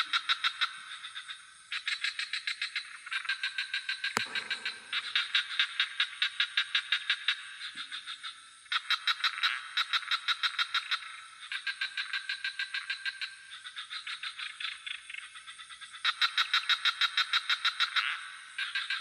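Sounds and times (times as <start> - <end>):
crickets trilling: 0.1 - 19.0
frogs croaking in rapid pulses: 0.1 - 19.0.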